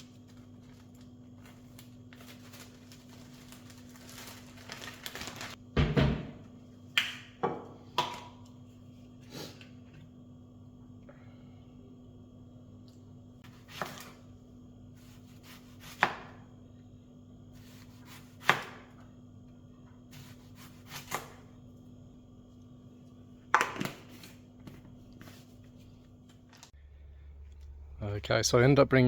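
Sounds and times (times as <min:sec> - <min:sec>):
steady low hum: 0:05.6 - 0:29.0.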